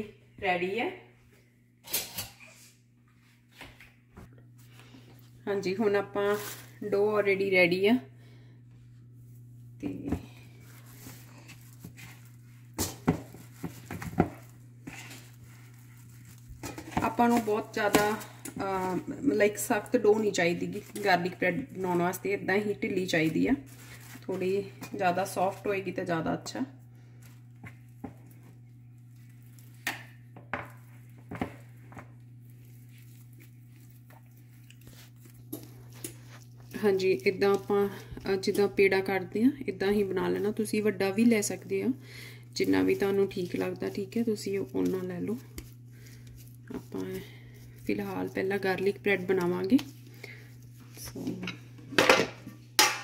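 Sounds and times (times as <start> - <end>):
steady low hum: 0.0 - 53.0
plastic wrap rustling: 5.6 - 7.5, 9.0 - 26.2, 27.0 - 41.9, 42.5 - 51.4.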